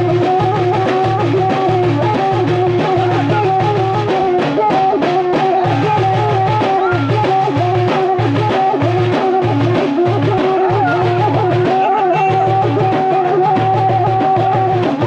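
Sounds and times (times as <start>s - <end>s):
frame drums beating: 0.0s - 15.0s
piping melody: 0.0s - 15.0s.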